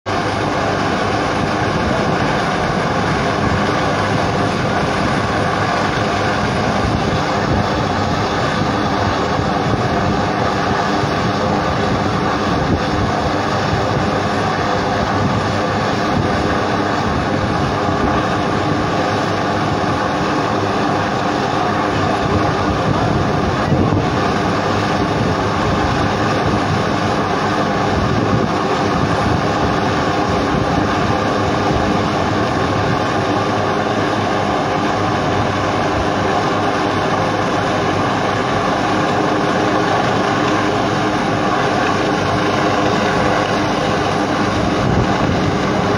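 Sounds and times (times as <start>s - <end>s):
helicopter hovering drone: 0.0s - 45.9s.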